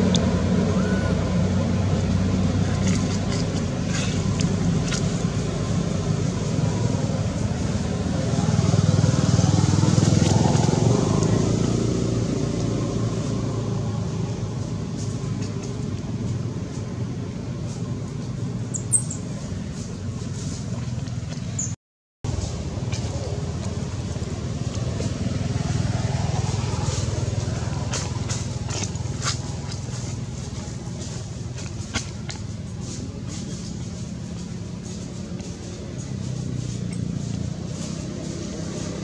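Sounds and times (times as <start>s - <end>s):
vehicle engine passing by: 0.0s - 18.7s, 22.3s - 39.0s.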